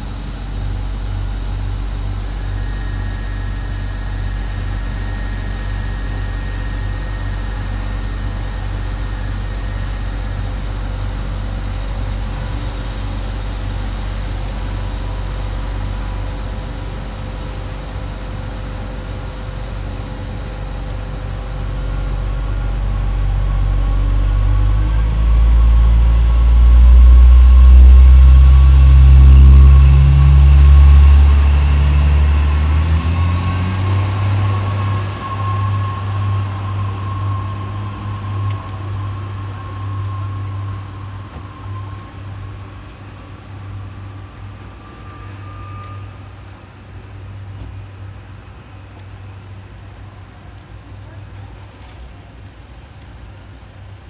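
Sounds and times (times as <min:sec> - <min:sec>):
diesel train engine hum: 0:00.0 - 0:54.0.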